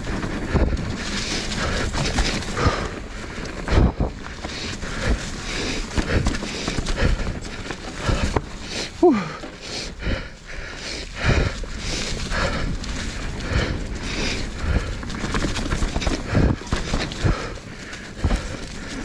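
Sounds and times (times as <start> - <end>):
wind noise on microphone: 0.0 - 8.4, 11.2 - 18.9
mountain bike rattling over rock: 0.0 - 19.0.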